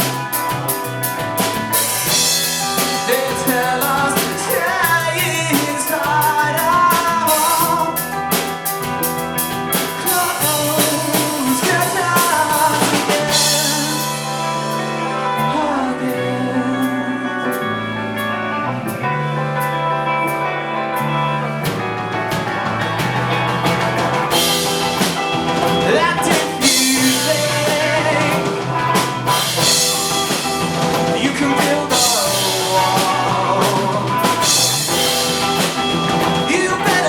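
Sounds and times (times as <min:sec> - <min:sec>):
live band playing: 0:00.0 - 0:37.0.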